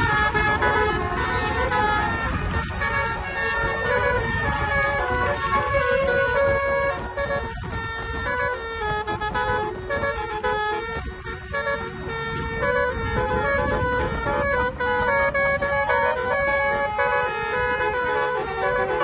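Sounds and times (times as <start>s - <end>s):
low rumbling noise: 0.0s - 17.0s
multi-tone horn playing tune: 0.0s - 19.0s.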